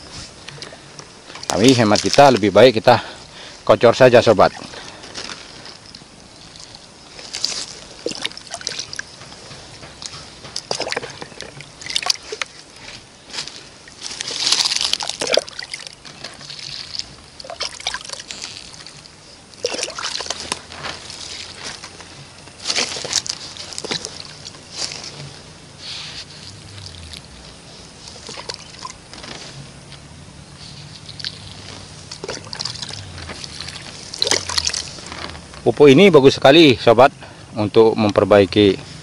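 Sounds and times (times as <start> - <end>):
liquid splashing and trickling: 0.5 - 3.5, 4.1 - 25.4, 26.3 - 29.4, 30.8 - 35.5.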